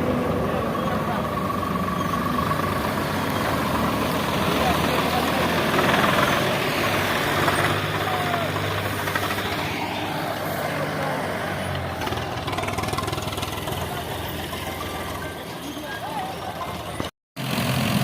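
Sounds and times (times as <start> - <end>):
tractor engine humming: 0.0 - 18.0
harvester machine clatter: 2.2 - 9.9, 11.0 - 18.0.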